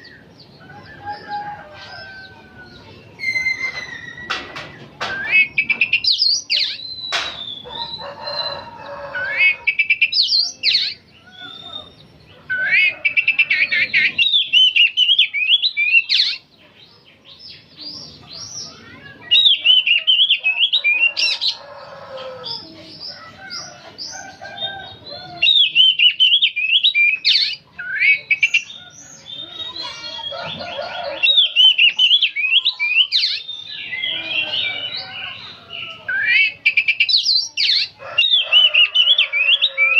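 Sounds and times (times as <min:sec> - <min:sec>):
songbird singing whistles and chatter: 0:00.0 - 0:39.9.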